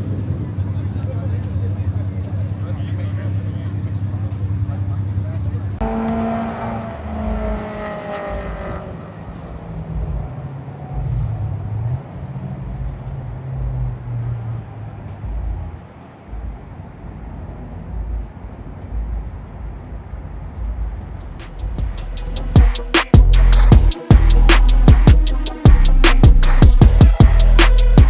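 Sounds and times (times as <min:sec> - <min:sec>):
low uneven engine rumble: 0:00.0 - 0:05.8, 0:08.4 - 0:28.0
car passing: 0:00.0 - 0:24.5.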